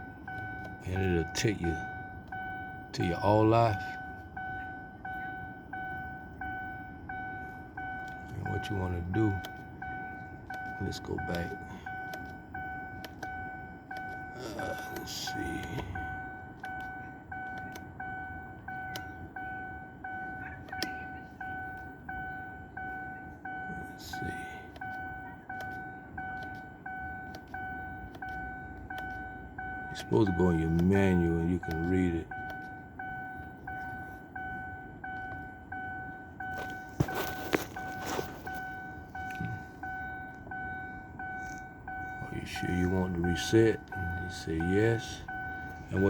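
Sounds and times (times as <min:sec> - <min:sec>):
car warning chime: 0:00.0 - 0:46.0.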